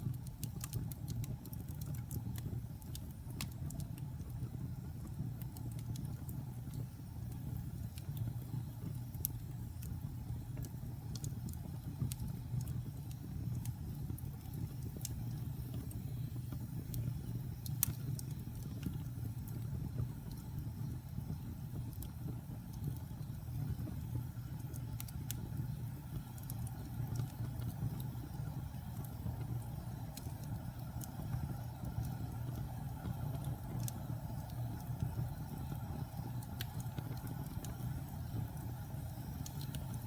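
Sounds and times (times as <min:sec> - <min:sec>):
burning logs rumbling: 0:00.0 - 0:40.0
fire crackling and popping: 0:00.0 - 0:40.0.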